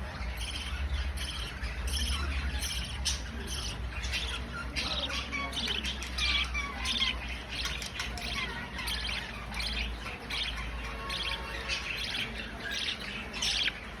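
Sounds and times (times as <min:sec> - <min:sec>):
budgerigars chirping and squawking: 0:00.0 - 0:14.0.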